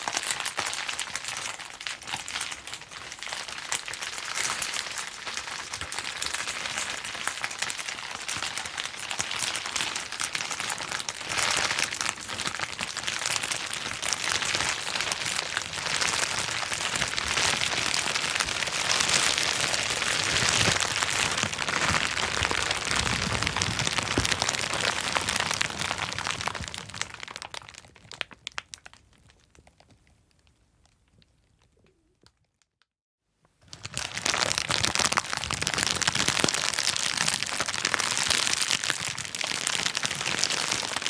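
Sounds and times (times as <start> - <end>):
bubble wrap popping: 0.0 - 32.7, 33.6 - 41.0.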